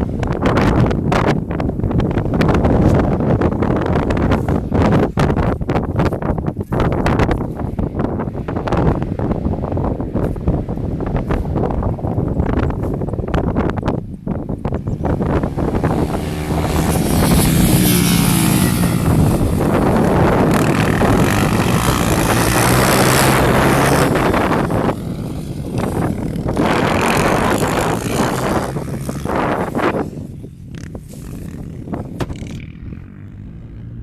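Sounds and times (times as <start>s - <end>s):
dirt bike engine running hard: 0.0s - 34.0s
wind rushing: 0.0s - 34.0s.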